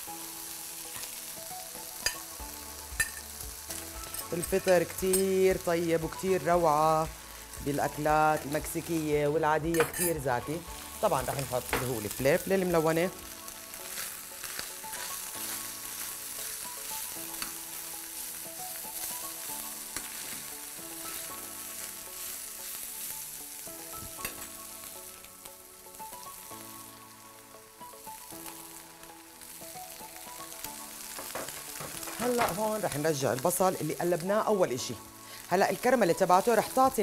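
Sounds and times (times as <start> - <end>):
meat and mushrooms sizzling in pan: 0.0 - 37.0.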